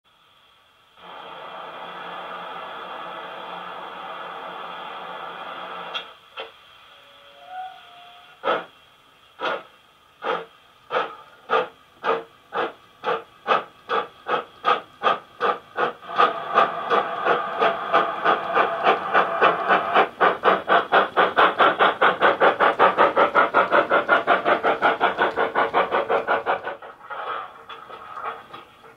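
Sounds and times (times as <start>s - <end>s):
steam hissing: 0.1s - 28.9s
steam locomotive exhaust chuffs: 0.1s - 28.9s.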